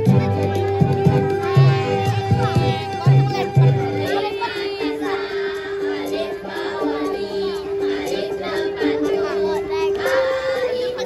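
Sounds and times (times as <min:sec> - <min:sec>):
music with held notes: 0:00.0 - 0:11.0
children singing: 0:01.1 - 0:11.0.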